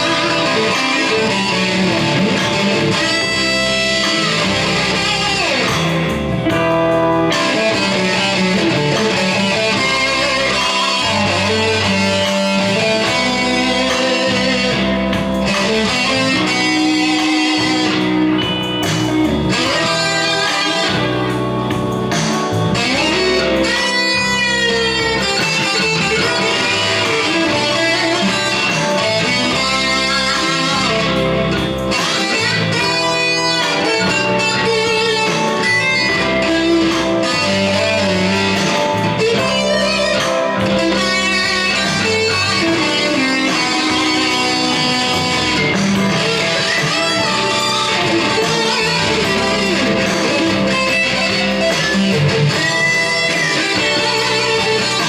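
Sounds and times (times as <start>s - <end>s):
backing track with bass line: 0.0s - 55.0s
electric guitar bending notes: 0.0s - 55.0s.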